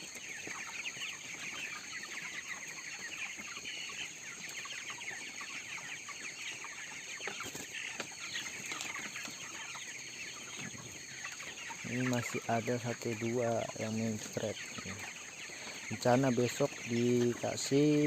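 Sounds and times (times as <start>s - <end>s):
chicks peeping and chirping: 0.0s - 18.0s.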